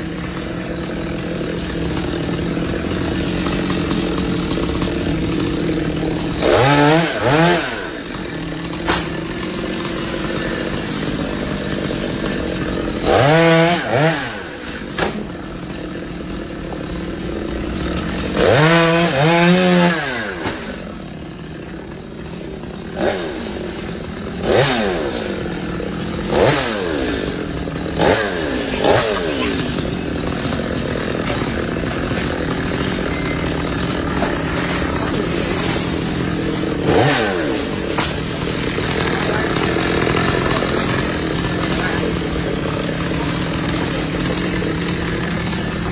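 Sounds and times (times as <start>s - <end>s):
chainsaw idling and revving: 0.0s - 45.9s.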